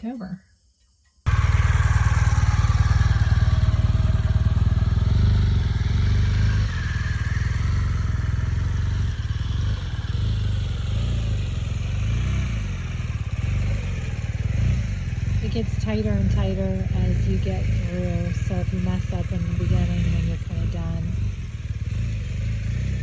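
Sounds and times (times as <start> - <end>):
motorcycle engine at low speed: 0.8 - 23.0.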